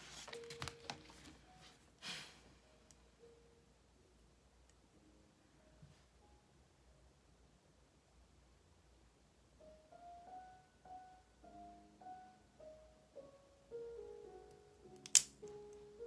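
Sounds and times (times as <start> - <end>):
soft slow piano: 0.0 - 16.0.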